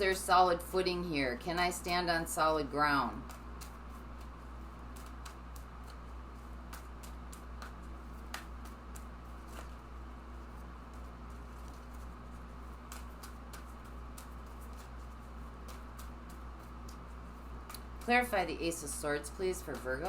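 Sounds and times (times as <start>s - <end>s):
cards being shuffled: 3.1s - 20.0s.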